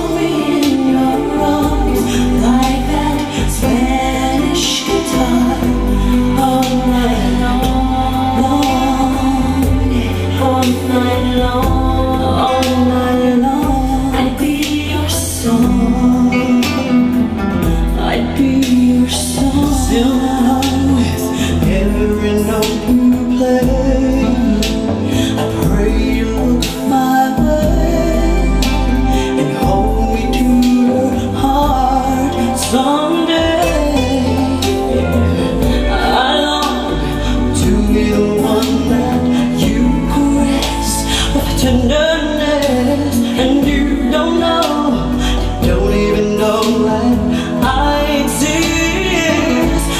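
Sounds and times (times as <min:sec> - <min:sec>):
song through speaker: 0:00.0 - 0:49.9.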